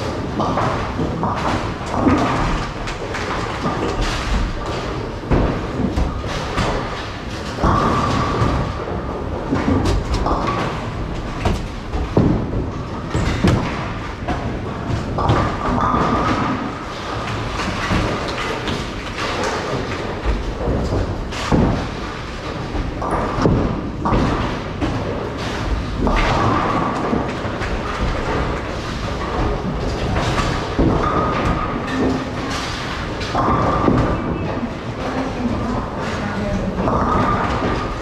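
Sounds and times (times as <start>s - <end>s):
bowling balls rolling: 0.0s - 38.0s
bowling pins crashing: 0.0s - 38.0s.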